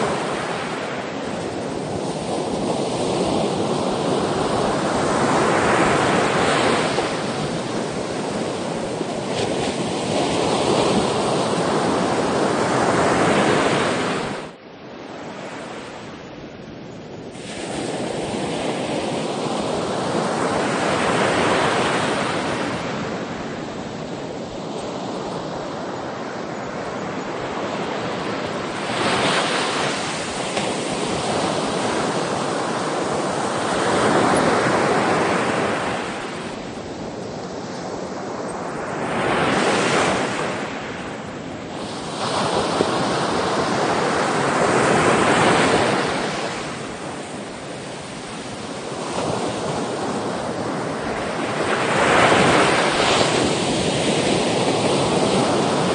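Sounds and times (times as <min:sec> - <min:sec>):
sea waves breaking: 0:00.0 - 0:16.1, 0:17.2 - 0:55.9
wind noise on microphone: 0:00.0 - 0:55.9.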